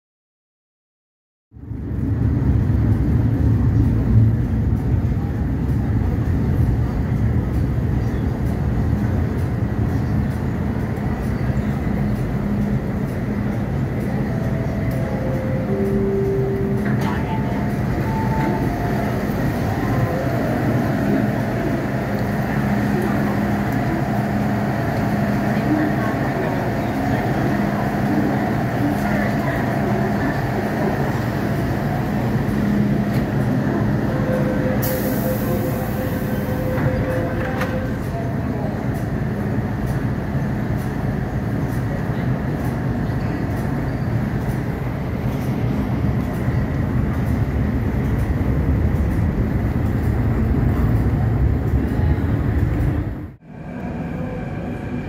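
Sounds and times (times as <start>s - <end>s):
train rumbling as it slows: 1.5s - 55.0s.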